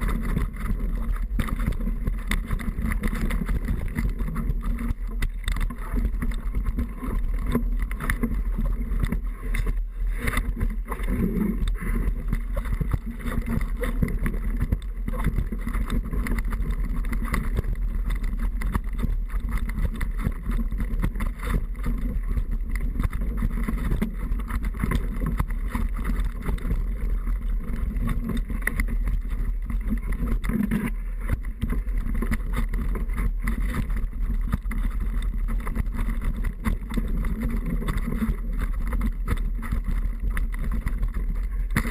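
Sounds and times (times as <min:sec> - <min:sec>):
bike clicks and rattles: 0:00.0 - 0:41.9
mountain bike rushing noise: 0:00.0 - 0:41.9.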